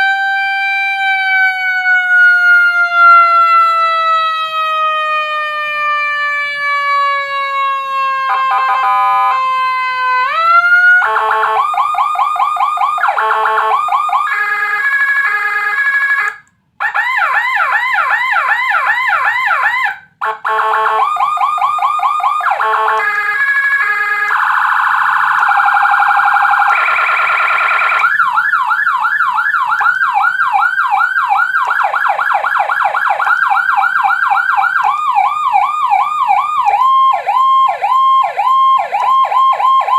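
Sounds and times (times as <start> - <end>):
electronic siren wailing and yelping: 0.0 - 39.9.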